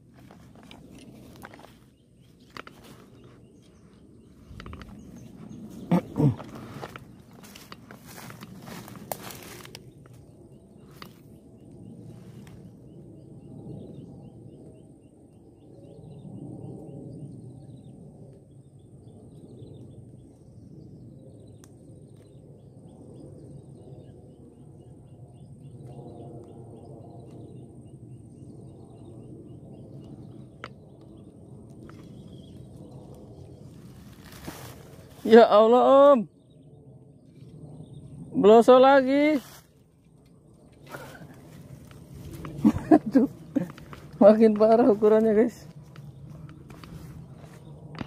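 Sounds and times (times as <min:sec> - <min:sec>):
low rumbling noise: 0:00.0 - 0:48.0.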